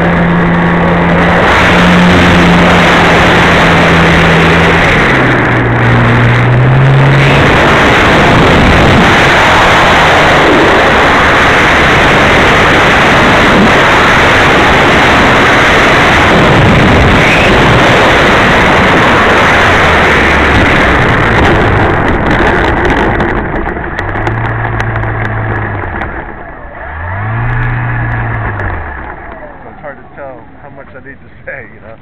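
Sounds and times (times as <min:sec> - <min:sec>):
wind rushing: 0:00.0 - 0:31.6
low motor hum: 0:00.0 - 0:32.0
propeller noise: 0:00.0 - 0:32.0.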